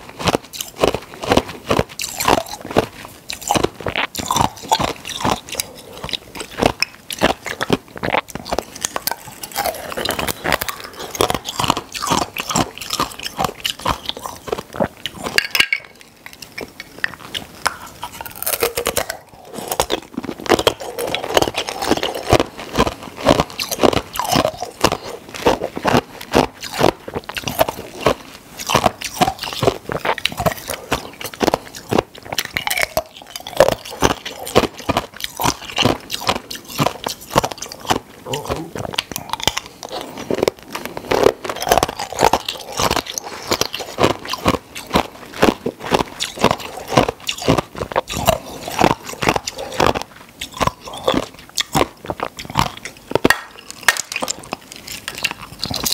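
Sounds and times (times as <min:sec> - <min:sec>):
ice cubes crunched between teeth: 0:00.1 - 0:55.9.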